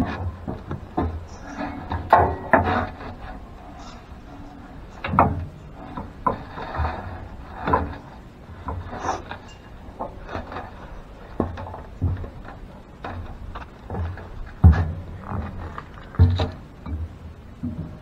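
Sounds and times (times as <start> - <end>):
metal rubbing and scraping: 0.0 - 16.7
metal clanks and knocks: 0.0 - 18.0.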